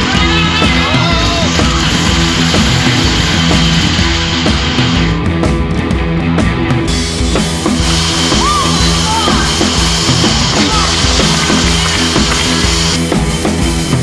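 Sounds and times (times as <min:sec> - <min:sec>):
bass notes: 0:00.0 - 0:14.0
drum kit beat: 0:00.0 - 0:14.0
rock music: 0:00.0 - 0:14.0.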